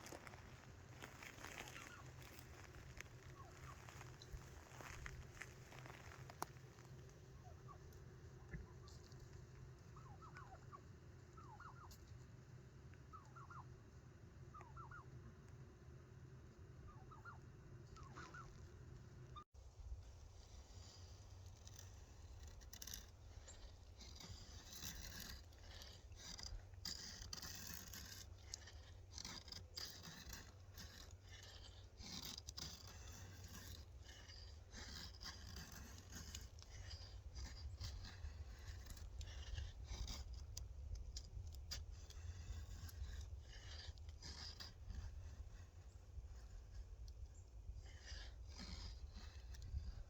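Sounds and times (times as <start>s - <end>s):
faint scraping with clicks: 0.0s - 13.7s, 17.8s - 50.0s.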